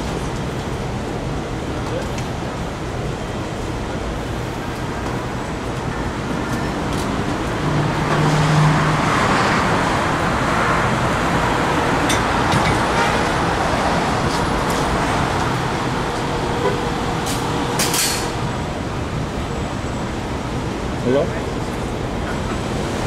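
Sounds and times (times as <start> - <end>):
passing cars: 4.5 - 23.0.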